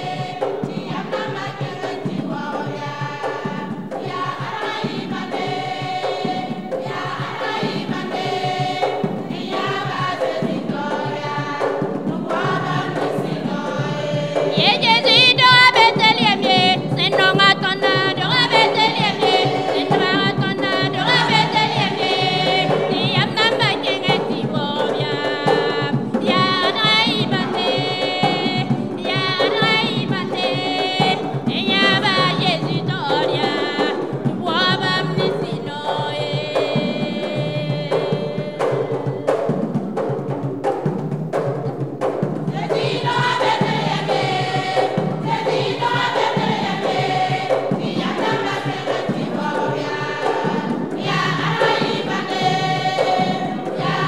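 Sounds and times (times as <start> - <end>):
women's choir singing: 0.0 - 39.8, 42.4 - 54.0
steady percussion beat: 0.0 - 54.0.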